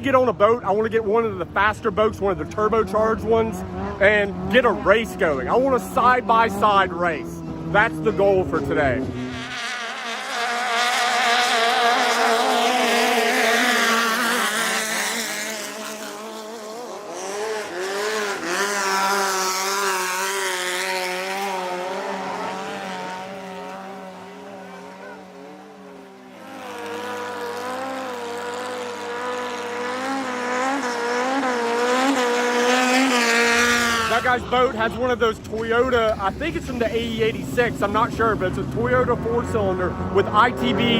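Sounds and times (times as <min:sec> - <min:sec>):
boat engines at high revs: 0:00.0 - 0:40.9.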